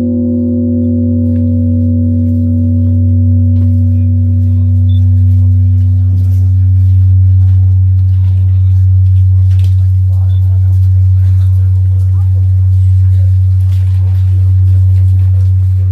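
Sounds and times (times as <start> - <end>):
temple bell ringing: 0.0 - 15.9.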